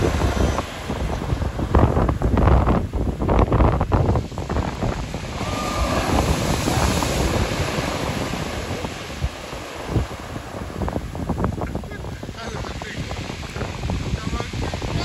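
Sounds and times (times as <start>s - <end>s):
sea surf breaking: 0.0s - 15.0s
wind rumbling on microphone: 0.0s - 15.0s.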